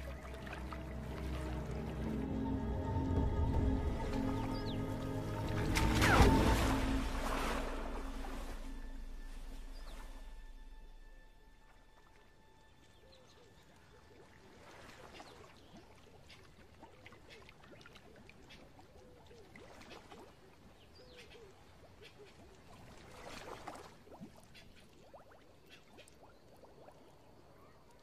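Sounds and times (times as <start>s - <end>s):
soft water splashes: 0.0s - 28.0s.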